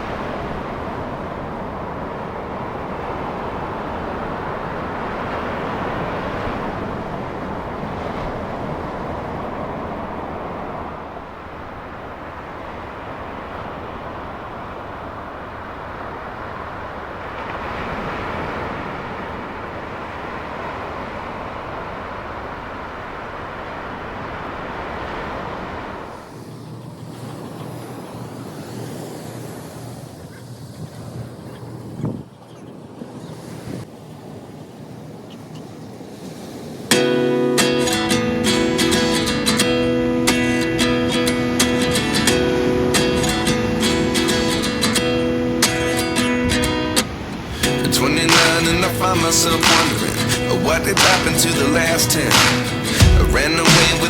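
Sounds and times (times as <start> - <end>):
ocean surf: 0.0 - 54.0
wind at shoreline: 0.0 - 54.0.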